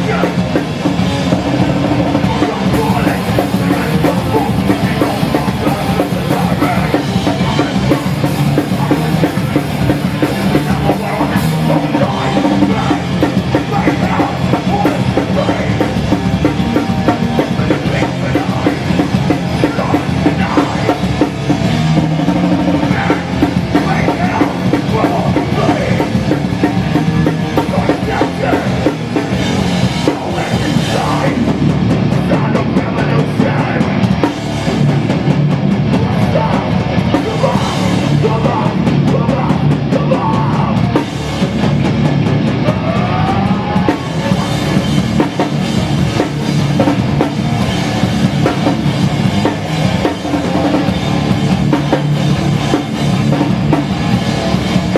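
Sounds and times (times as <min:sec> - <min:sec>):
distorted guitars: 0:00.0 - 0:54.9
fast heavy drum kit: 0:00.0 - 0:54.9.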